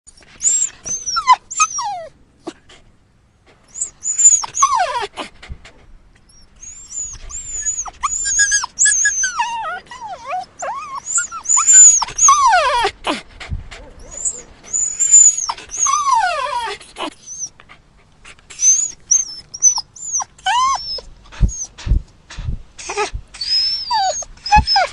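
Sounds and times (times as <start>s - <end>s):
dog whining: 0.1s - 2.8s, 3.7s - 5.4s, 6.3s - 17.6s, 18.3s - 22.0s, 22.8s - 24.9s.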